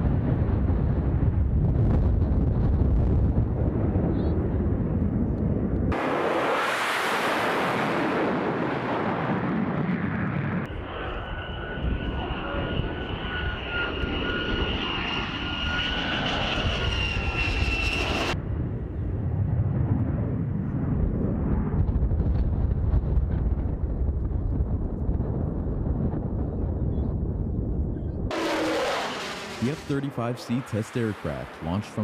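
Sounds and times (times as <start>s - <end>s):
jet engine high whine: 0.0s - 32.0s
jet engine roaring: 0.0s - 32.0s.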